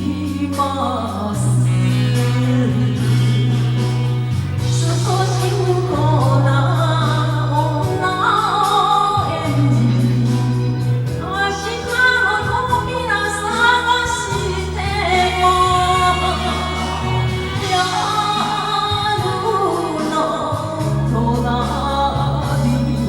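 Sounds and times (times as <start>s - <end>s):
karaoke backing track: 0.0s - 23.0s
woman singing: 0.0s - 23.0s.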